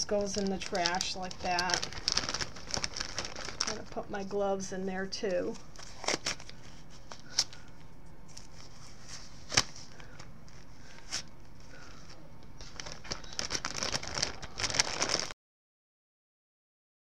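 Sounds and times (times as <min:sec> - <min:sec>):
plastic bag crinkling: 0:00.0 - 0:04.2, 0:05.5 - 0:15.4.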